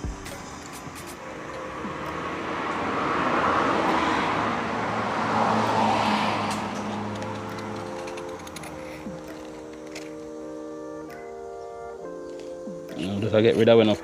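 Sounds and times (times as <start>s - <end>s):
vehicles passing by: 0.0s - 14.0s.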